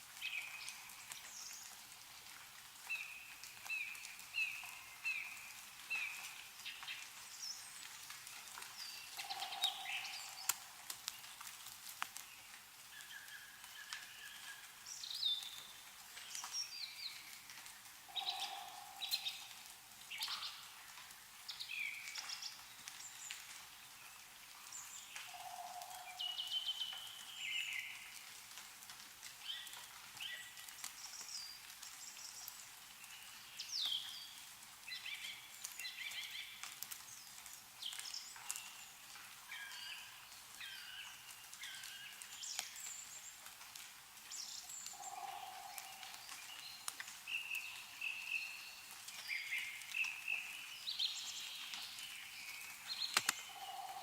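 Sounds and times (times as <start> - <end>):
water dripping: 0.0 - 54.0
small birds chirping: 2.8 - 28.3, 29.4 - 43.6, 44.2 - 54.0.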